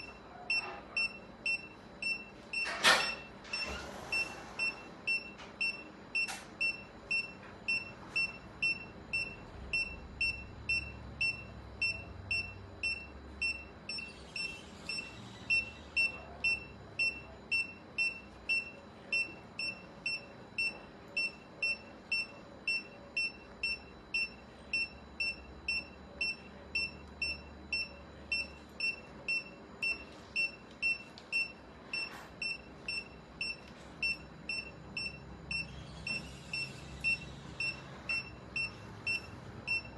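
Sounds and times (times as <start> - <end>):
patient monitor beeping: 0.0 - 39.9.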